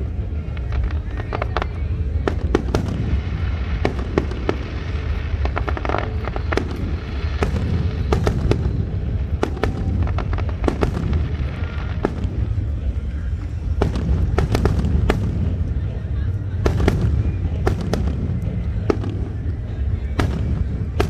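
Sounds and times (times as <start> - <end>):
fireworks cracks and bangs: 0.0 - 21.0.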